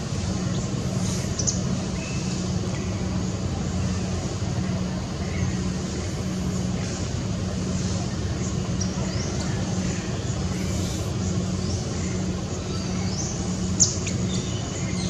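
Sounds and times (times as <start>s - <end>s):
low hum of motor traffic: 0.0s - 15.0s.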